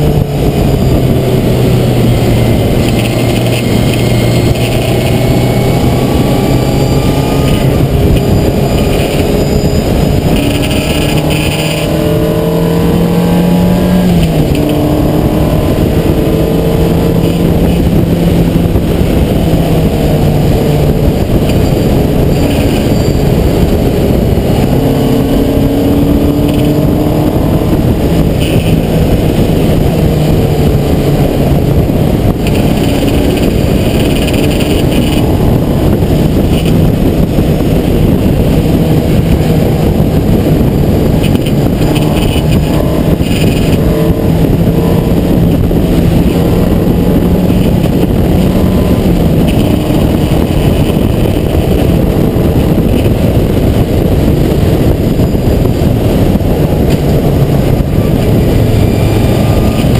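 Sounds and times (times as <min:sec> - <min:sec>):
race car engine running hard: 0:00.0 - 0:59.9
wind rumble on microphone: 0:00.0 - 0:59.9.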